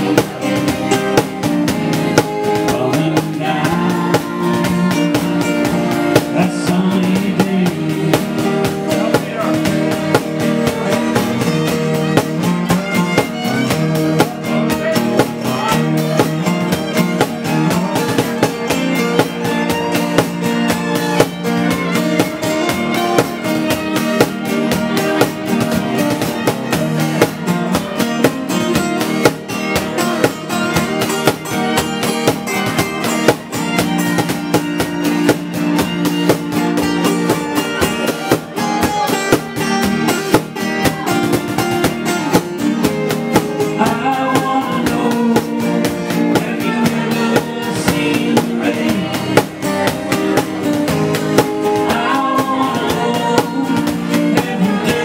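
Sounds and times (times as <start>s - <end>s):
fiddle: 0.0s - 55.0s
strummed acoustic guitars: 0.0s - 55.0s.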